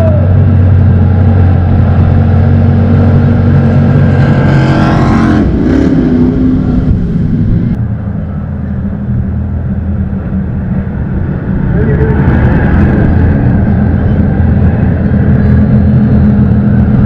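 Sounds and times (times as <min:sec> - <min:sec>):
jet boat engines passing: 0:00.0 - 0:17.0
steady low drone: 0:00.0 - 0:17.0.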